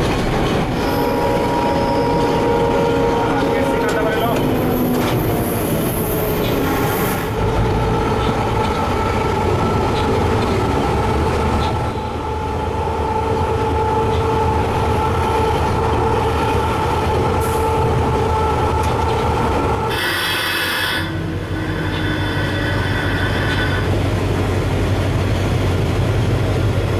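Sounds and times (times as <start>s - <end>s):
train mechanical drone: 0.0s - 26.9s.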